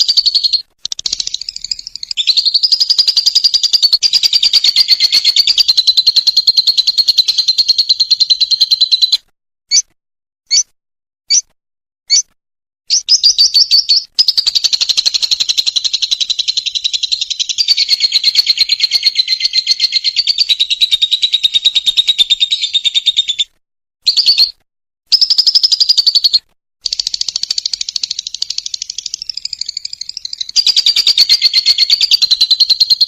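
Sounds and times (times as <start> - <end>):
bird chirping: 0.0 - 9.9, 10.5 - 10.7, 11.3 - 11.5, 12.1 - 33.0
bird fast chattering trill: 0.0 - 9.9, 11.3 - 11.5, 12.9 - 23.5, 24.1 - 33.0.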